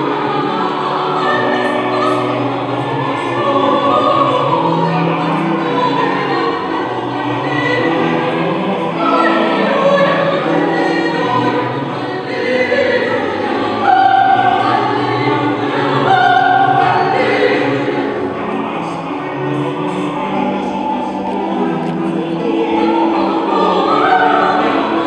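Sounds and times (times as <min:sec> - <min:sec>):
choir singing held notes: 0:00.0 - 0:25.0.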